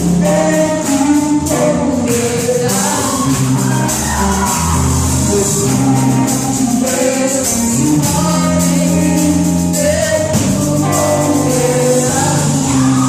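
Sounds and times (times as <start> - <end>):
band playing worship music: 0.0 - 13.0
shaken tambourine: 0.0 - 13.0
voices singing: 0.0 - 13.0.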